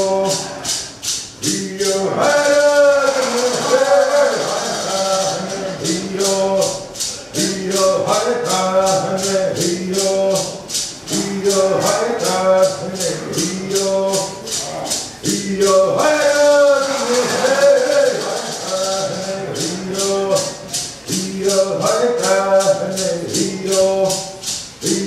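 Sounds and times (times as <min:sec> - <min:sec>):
shaken rattle: 0:00.0 - 0:25.0
voices singing: 0:00.0 - 0:25.0.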